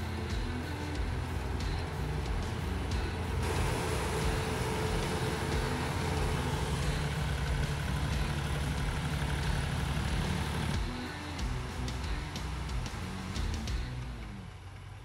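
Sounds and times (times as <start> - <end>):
combine harvester running: 0.0 - 15.0.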